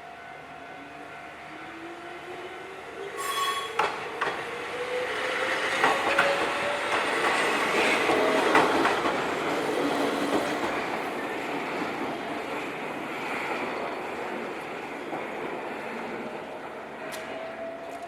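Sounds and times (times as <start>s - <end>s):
rumble of wheels on rail: 1.0s - 18.0s.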